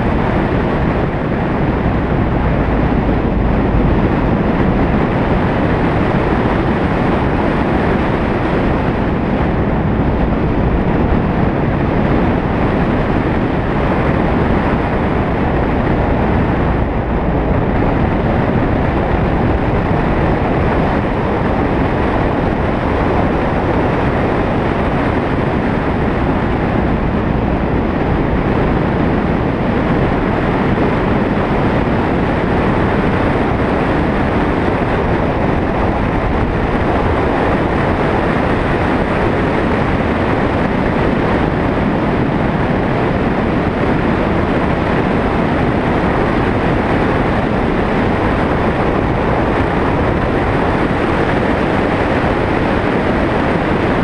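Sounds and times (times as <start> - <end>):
vehicle road and wind noise: 0.0 - 54.0.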